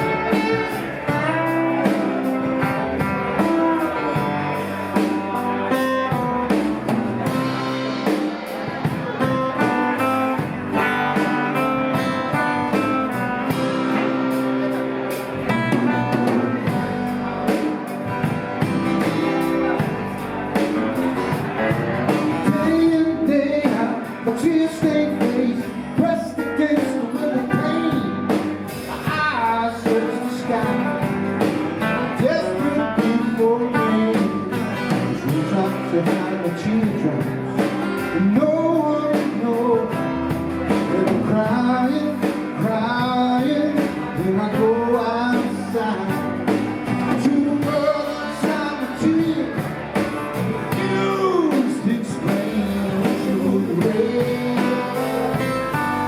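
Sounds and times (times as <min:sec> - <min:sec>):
band playing blues live: 0:00.0 - 0:56.0
person singing: 0:00.0 - 0:56.0.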